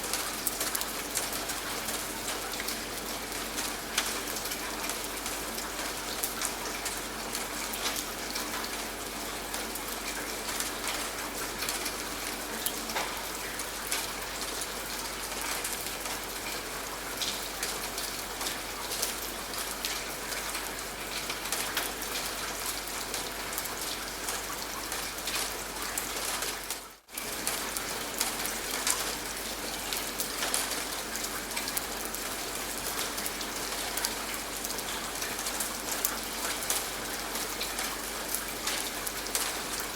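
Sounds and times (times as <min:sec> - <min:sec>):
raindrops striking a surface: 0:00.0 - 0:39.9
steady rainfall: 0:00.0 - 0:39.9.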